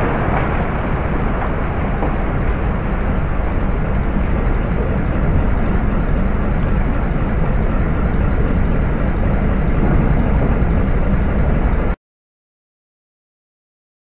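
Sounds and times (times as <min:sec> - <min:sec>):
demolition machinery rumbling: 0:00.0 - 0:12.0.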